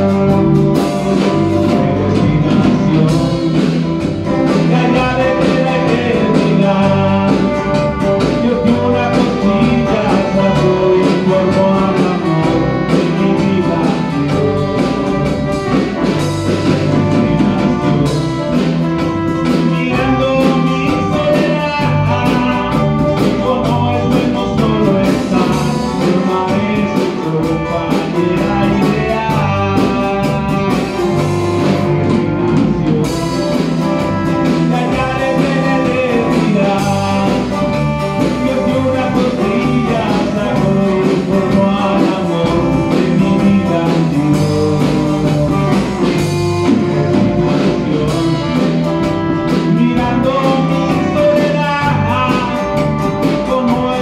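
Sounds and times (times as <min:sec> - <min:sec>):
man singing into microphone: 0:00.0 - 0:18.5, 0:19.4 - 0:31.3, 0:32.0 - 0:54.0
live band playing: 0:00.0 - 0:54.0.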